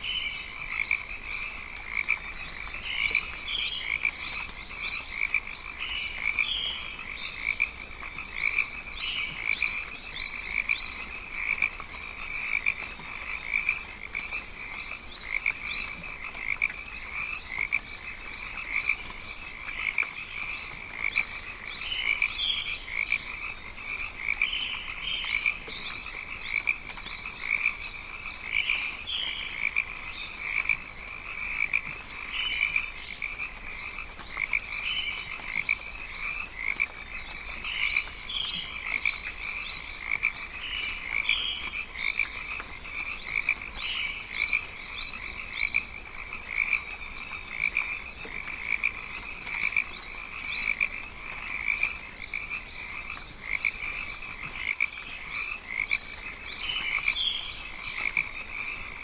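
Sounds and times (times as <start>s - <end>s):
frog chorus croaking: 0.0s - 59.0s.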